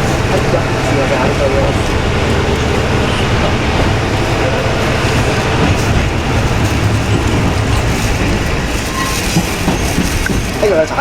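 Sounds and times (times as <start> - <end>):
diesel engine drone: 0.0 - 11.0
wheel and rail noise: 0.0 - 11.0.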